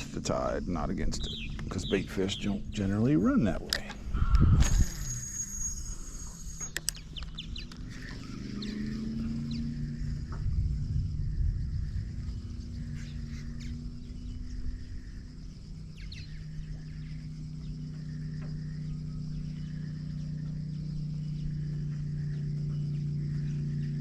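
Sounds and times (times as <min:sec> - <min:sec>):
birds chirping: 0:00.0 - 0:24.0
small boat motor humming: 0:00.0 - 0:24.0.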